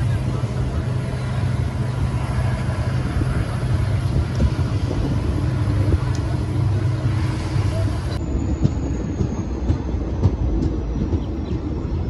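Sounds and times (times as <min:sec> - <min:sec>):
diesel train engine idling: 0:00.0 - 0:12.0.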